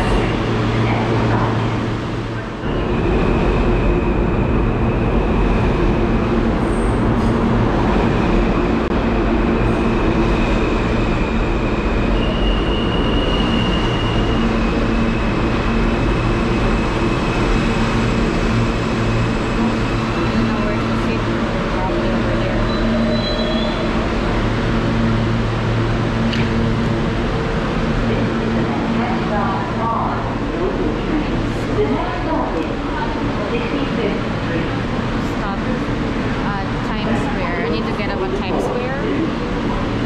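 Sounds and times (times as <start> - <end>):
high train whine: 0.0 - 40.0
subway wheels rumbling on rail: 0.0 - 40.0.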